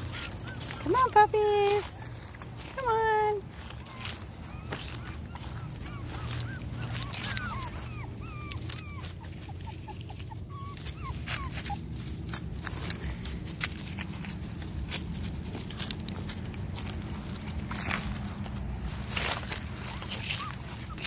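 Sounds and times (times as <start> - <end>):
paws crackling on dry leaves: 0.0 - 21.0
puppies whining and yipping: 0.0 - 21.0.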